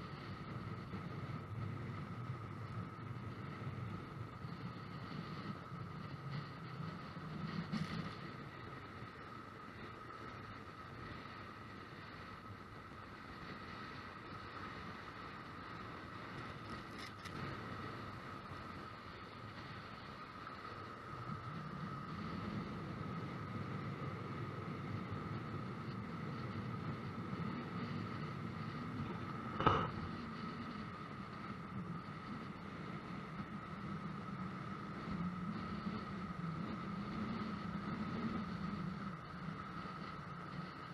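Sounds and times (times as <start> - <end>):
steady thin whine: 0.0 - 40.9
wind on microphone: 0.0 - 40.9.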